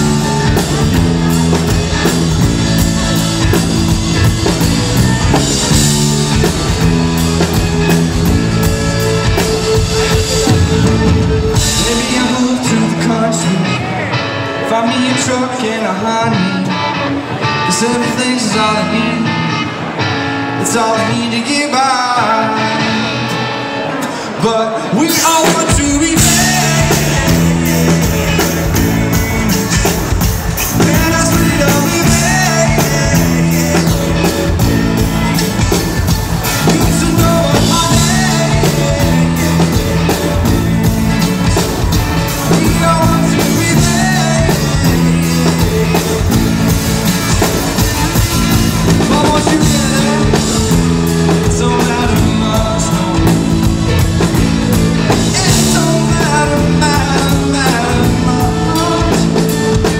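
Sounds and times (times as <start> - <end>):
live rock band playing: 0.0 - 59.9
person singing: 0.0 - 59.9.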